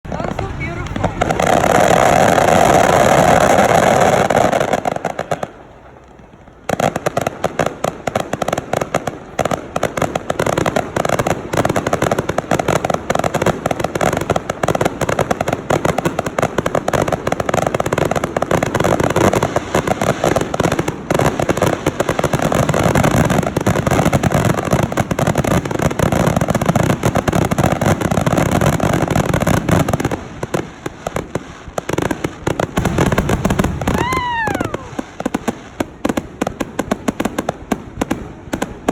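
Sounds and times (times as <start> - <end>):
fireworks crackling and popping: 0.0 - 38.9
firework burst: 0.1 - 38.9.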